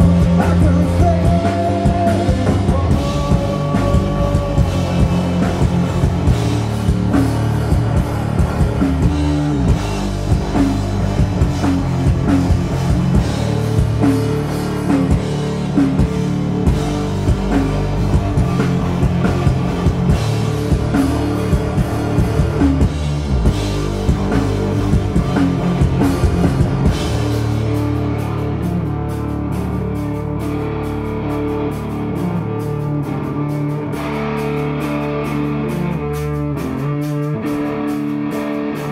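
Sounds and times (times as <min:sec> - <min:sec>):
bass guitar: 0:00.0 - 0:38.9
distorted electric guitar: 0:00.0 - 0:38.9
drum kit: 0:00.0 - 0:38.9.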